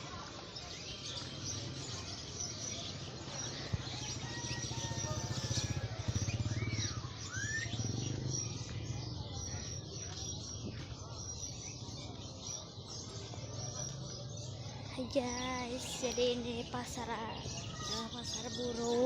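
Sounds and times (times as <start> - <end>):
songbirds chirping and whistling: 0.0 - 19.0.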